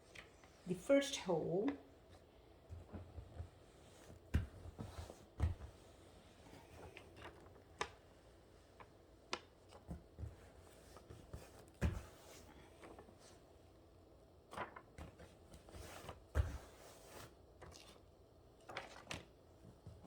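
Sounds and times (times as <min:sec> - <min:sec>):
light rustles of paper backing: 0:00.0 - 0:20.0.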